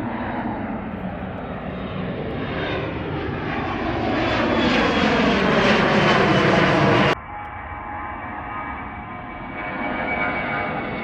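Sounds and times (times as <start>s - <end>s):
jet airliner engine roar: 0.0s - 11.0s.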